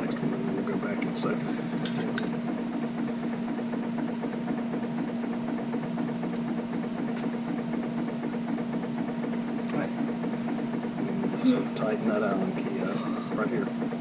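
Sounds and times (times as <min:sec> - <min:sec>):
machine hum with low rattle: 0:00.0 - 0:14.0.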